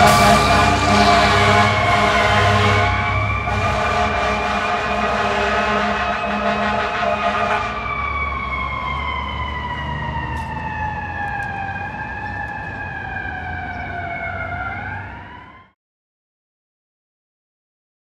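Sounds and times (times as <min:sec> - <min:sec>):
mechanical siren winding down: 0:00.0 - 0:05.1, 0:05.9 - 0:15.8.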